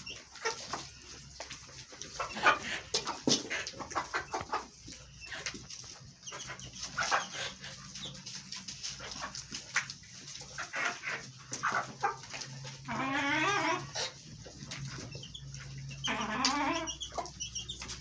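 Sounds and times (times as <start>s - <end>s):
poultry clucking: 0.0s - 18.0s.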